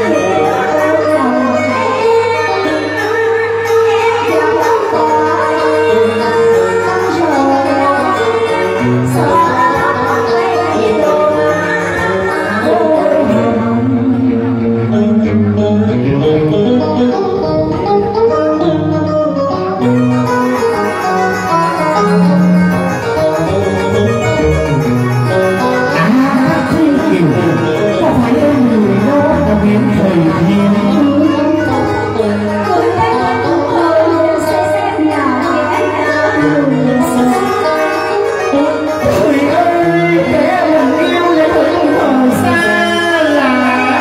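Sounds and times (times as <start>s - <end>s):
electronic keyboard accompaniment: 0.0s - 44.0s.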